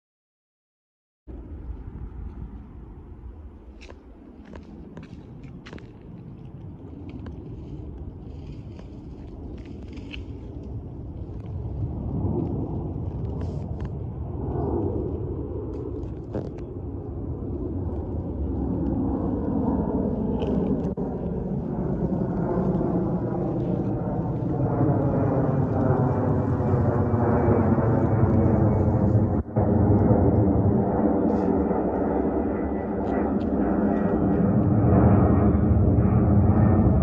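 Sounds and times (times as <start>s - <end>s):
jet engines rumbling overhead: 1.3s - 37.0s.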